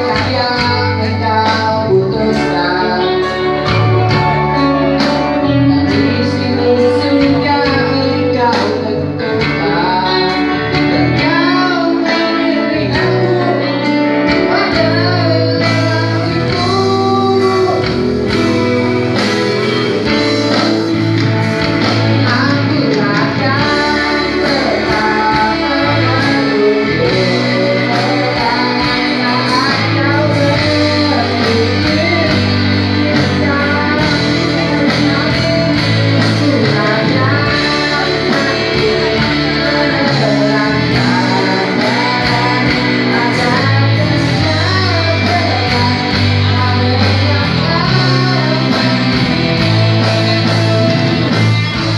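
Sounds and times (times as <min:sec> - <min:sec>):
live band with guitar: 0:00.0 - 0:51.9
man singing into microphone: 0:00.0 - 0:51.9.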